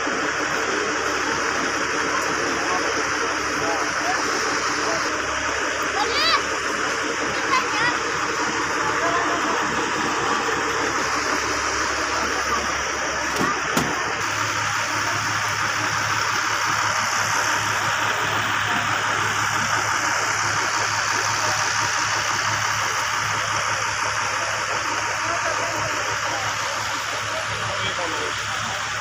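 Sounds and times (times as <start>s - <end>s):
electric fan motor hum: 0.0s - 29.0s.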